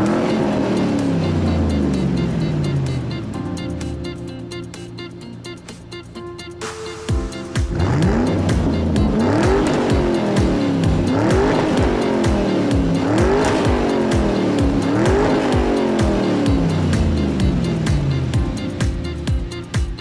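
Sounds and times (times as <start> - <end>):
engine-like whine: 0.0 - 5.6, 7.7 - 18.7
upbeat music with steady beat: 0.0 - 20.0.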